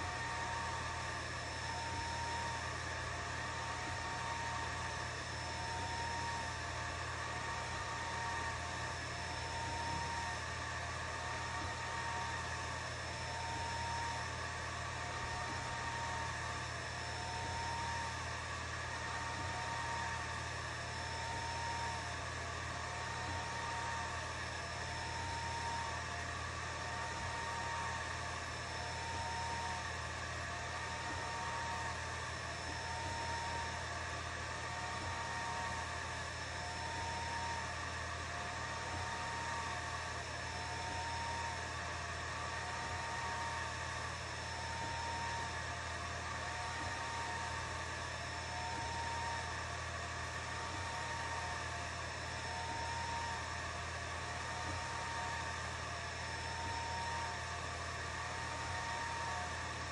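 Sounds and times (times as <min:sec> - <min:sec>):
fans whirring: 0:00.0 - 0:59.9
stepper motor whine: 0:00.0 - 0:59.9.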